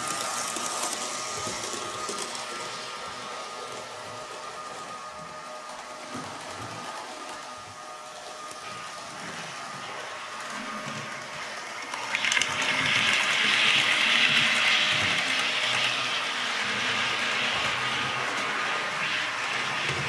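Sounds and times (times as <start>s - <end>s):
model train running on track: 0.0s - 20.0s.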